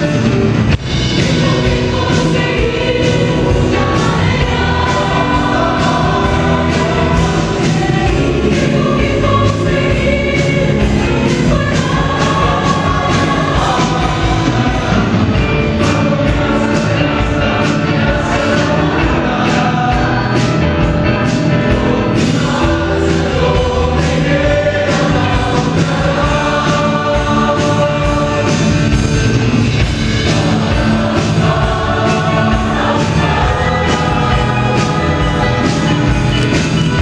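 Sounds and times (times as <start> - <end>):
drums keeping a steady beat: 0.0 - 37.0
live band playing: 0.0 - 37.0
mixed choir singing in harmony: 0.0 - 37.0.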